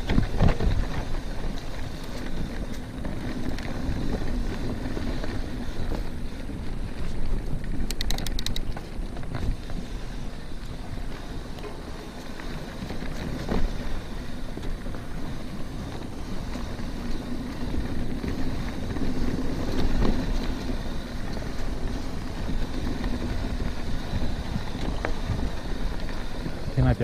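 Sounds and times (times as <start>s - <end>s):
bike tyres on dirt trail: 0.0s - 27.0s.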